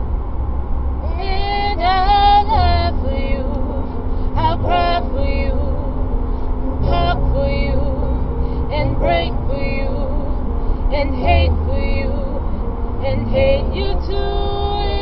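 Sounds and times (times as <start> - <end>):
car rumble on road: 0.0 - 15.0
woman singing: 1.0 - 6.0, 6.8 - 15.0.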